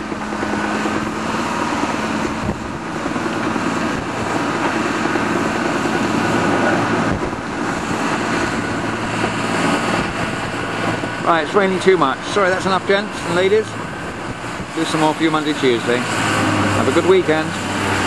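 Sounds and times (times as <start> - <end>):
diesel earthmoving machines droning: 0.0 - 18.0
wind buffeting microphone: 0.0 - 18.0.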